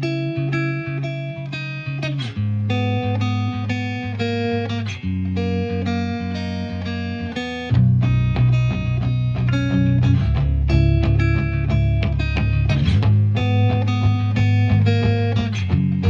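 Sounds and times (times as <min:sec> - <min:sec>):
plucked guitar music with bass: 0:00.0 - 0:16.0.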